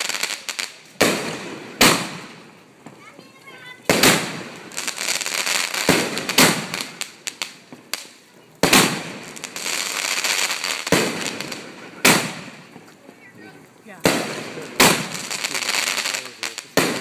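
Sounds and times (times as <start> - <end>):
fireworks bursting overhead: 0.0 - 17.0
small firework pops: 0.0 - 17.0.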